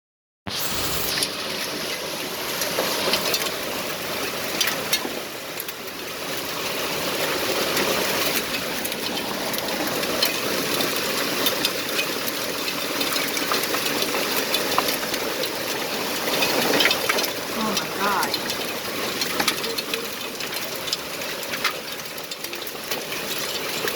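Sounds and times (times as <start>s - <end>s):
heavy hail falling: 0.6s - 23.9s
hailstones clicking on hard surfaces: 0.8s - 23.9s.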